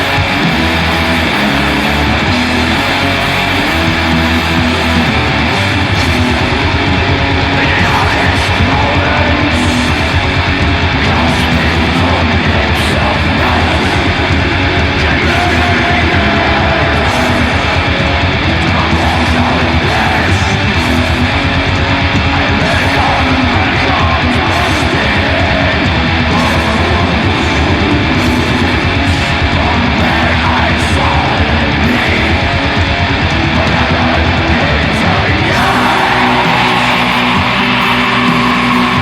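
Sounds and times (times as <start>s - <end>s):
distorted electric guitars: 0.0s - 39.0s.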